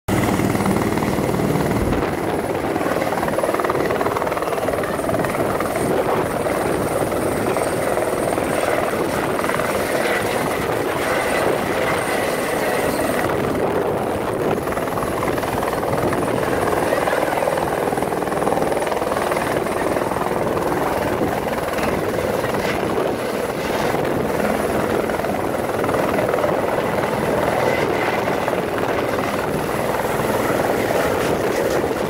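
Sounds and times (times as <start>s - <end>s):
helicopter rotor and turbine: 0.1s - 32.0s.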